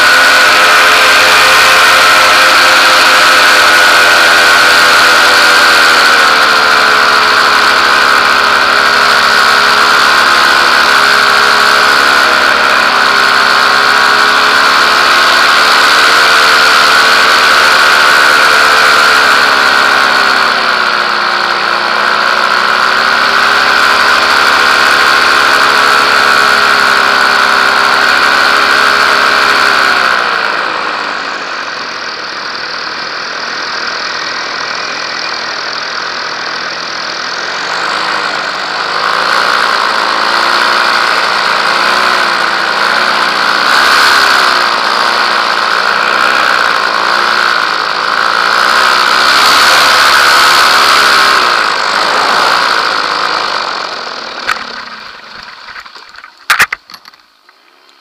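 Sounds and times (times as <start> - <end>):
paramotor engine and propeller hum: 0.0 - 58.0.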